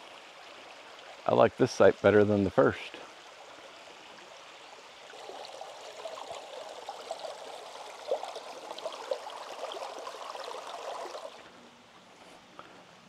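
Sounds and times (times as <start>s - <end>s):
creek splashing over rocks: 0.0s - 11.6s.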